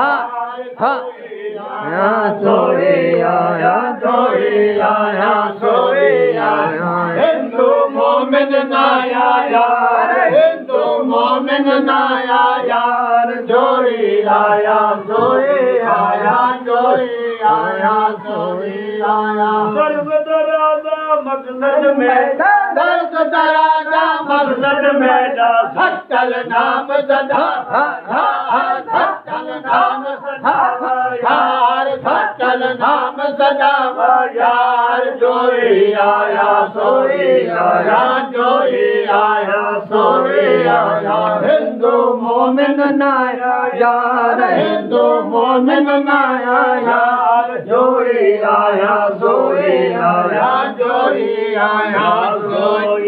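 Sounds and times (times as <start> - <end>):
men singing in chanting style: 0.0 - 53.0.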